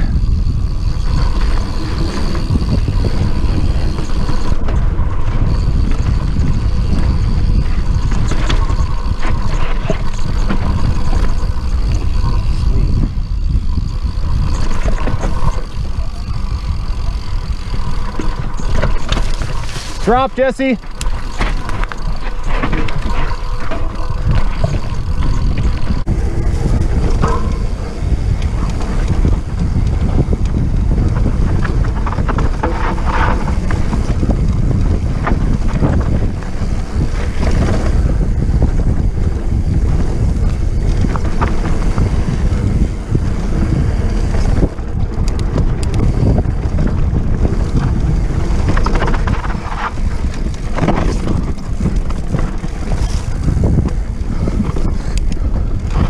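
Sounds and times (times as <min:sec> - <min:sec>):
bike knocks and rattles: 0:00.0 - 0:56.0
tyre rumble: 0:00.0 - 0:56.0
wind rushing over microphone: 0:00.0 - 0:56.0.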